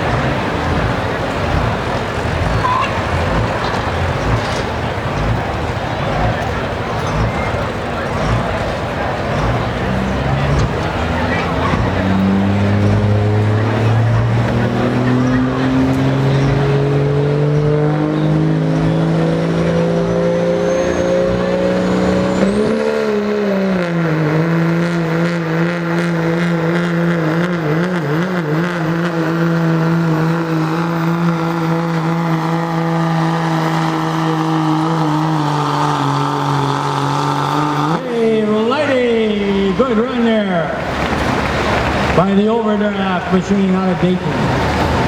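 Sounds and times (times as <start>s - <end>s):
diesel truck engine under load: 0.0s - 45.0s.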